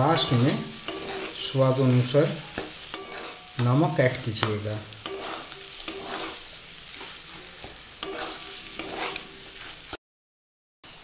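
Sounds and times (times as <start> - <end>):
spatula scraping a steel pan: 0.0 - 3.8, 4.4 - 10.0
food frying sizzle: 0.0 - 10.0.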